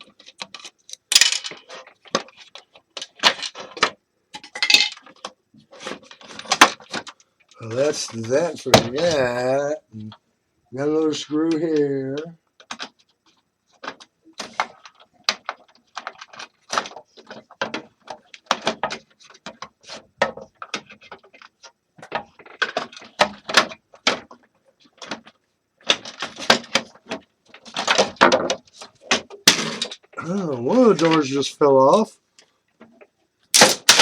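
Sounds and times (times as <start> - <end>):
plastic and metal parts rattling: 0.0 - 9.3, 11.5 - 31.3, 32.4 - 34.0.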